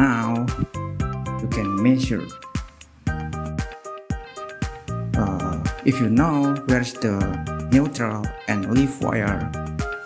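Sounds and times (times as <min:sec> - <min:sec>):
light instrumental music with plucked notes: 0:00.0 - 0:10.0.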